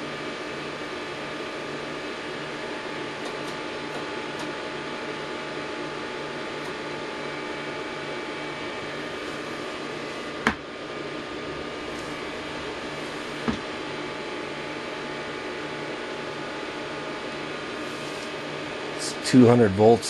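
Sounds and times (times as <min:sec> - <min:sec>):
cooling fans whirring: 0:00.0 - 0:20.0.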